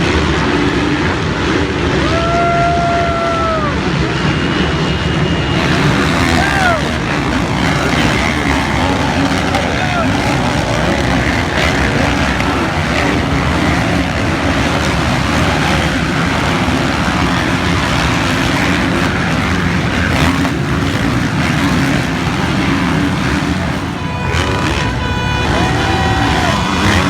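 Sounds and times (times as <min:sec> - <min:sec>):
motocross bike engines racing: 0:00.0 - 0:27.0.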